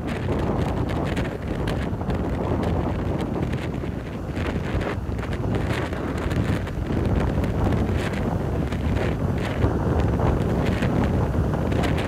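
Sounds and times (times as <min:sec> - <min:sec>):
surf washing over sand and rocks: 0:00.0 - 0:12.0
wind buffeting microphone: 0:00.0 - 0:12.0.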